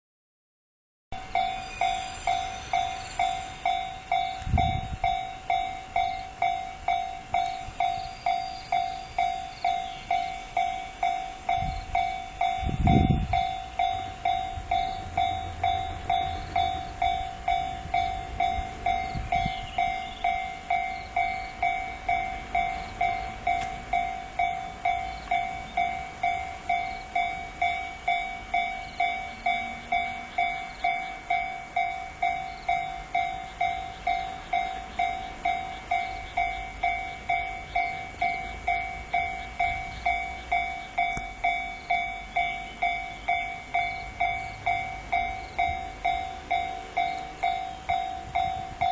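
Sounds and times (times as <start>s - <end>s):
level crossing warning bell ringing: 1.2s - 48.9s.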